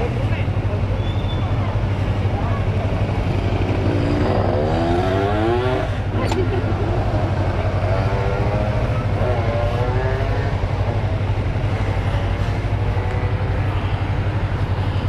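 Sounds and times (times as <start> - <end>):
motorcycle engines idling: 0.0 - 15.0.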